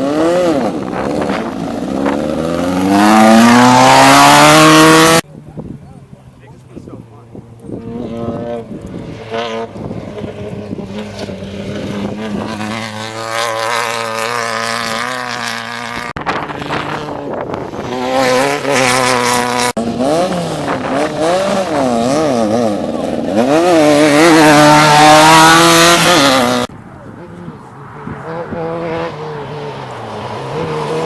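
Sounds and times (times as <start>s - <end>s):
buggy engines revving: 0.0s - 31.0s.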